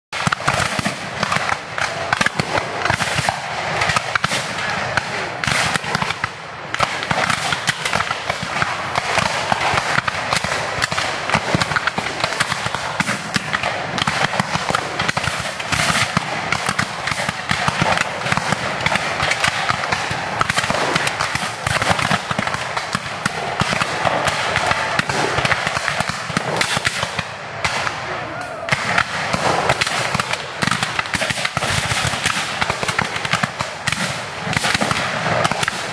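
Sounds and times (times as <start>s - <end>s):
musket fire crackle: 0.1s - 35.9s.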